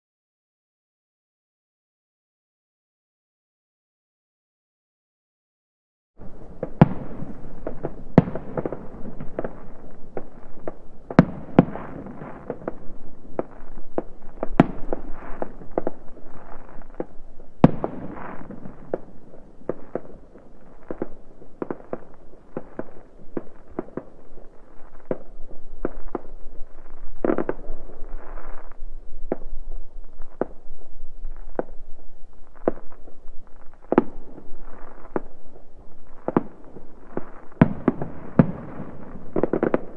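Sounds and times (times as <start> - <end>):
fireworks bangs and pops: 6.2 - 39.9.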